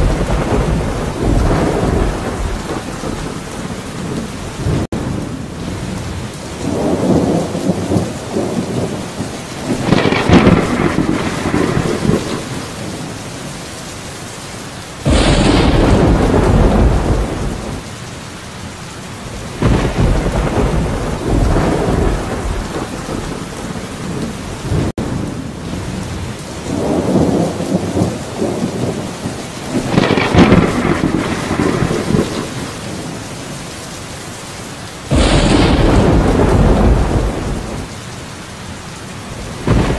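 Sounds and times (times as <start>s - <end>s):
thunder rumbling: 0.0s - 13.4s, 15.0s - 17.9s, 19.3s - 33.5s, 35.0s - 38.1s, 39.2s - 39.9s
steady rain: 0.0s - 39.9s.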